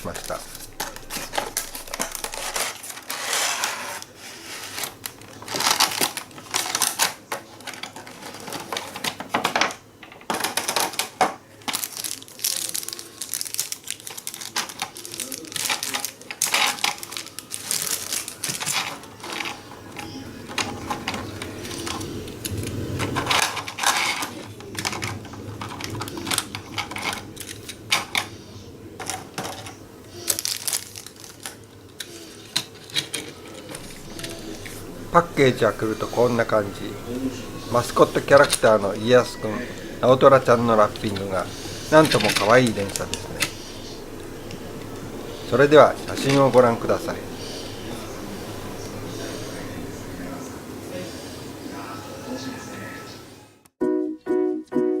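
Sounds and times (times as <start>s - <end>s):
plastic package clicks and rustling: 0.0s - 28.3s, 29.0s - 44.9s.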